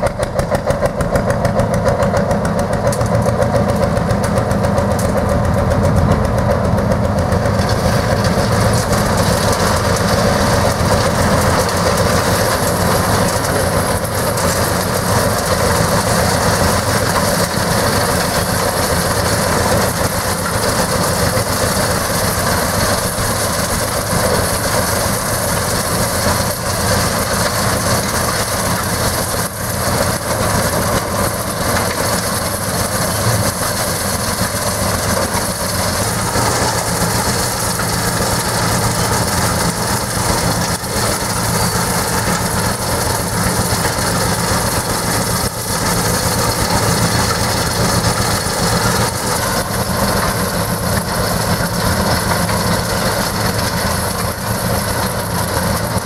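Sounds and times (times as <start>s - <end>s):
steady engine hum: 0.0s - 56.0s
steel buckets rattling and clanking: 7.3s - 56.0s.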